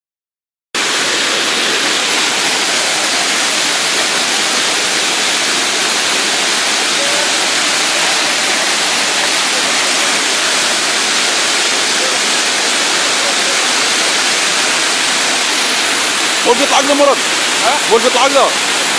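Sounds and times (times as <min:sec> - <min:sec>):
swollen river rushing: 0:00.8 - 0:18.9.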